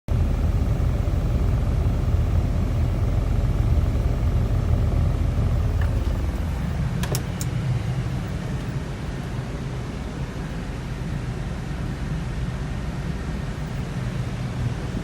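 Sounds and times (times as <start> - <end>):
truck engine rumbling: 0.1 - 15.0.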